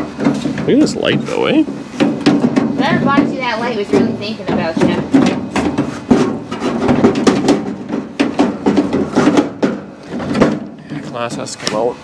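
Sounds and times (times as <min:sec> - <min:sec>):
knocking and clattering of car window: 0:00.0 - 0:11.4.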